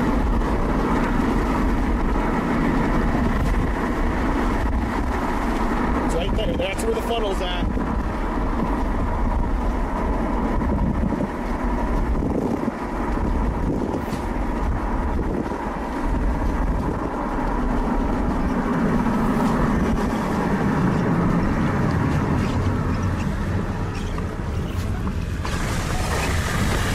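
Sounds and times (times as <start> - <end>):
car road and engine noise: 0.0 - 26.9.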